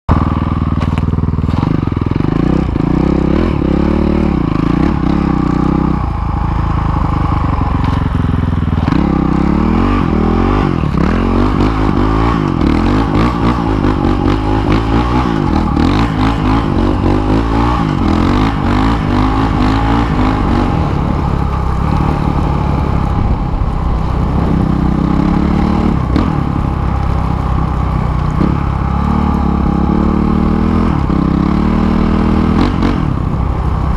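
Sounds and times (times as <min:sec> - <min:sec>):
dirt bike engine revving: 0:00.1 - 0:33.9.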